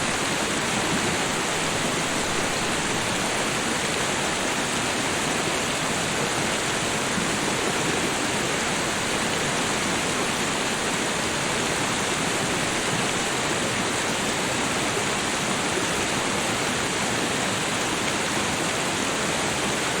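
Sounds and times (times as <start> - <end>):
small waterfall flowing: 0.0 - 20.0.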